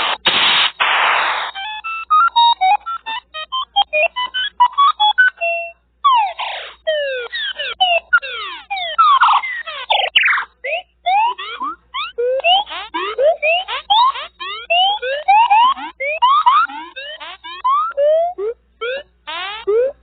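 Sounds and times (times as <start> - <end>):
falling electronic chirps: 0.0 - 20.0
short electronic beeps: 0.0 - 20.0.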